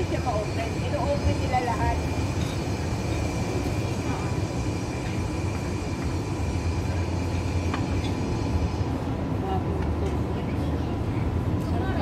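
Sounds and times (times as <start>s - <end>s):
faint indistinct conversation: 0.0s - 12.0s.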